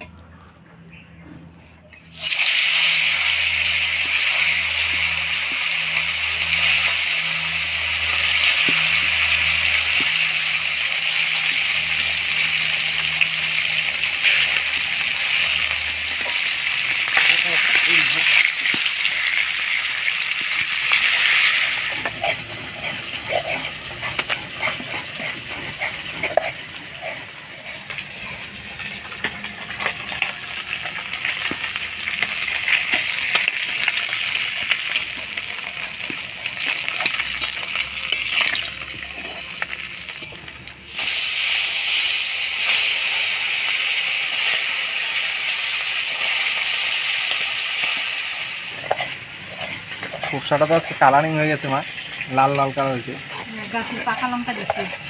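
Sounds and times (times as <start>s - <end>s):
oil crackling and popping: 1.9s - 55.0s
fish sizzling in hot oil: 2.0s - 55.0s.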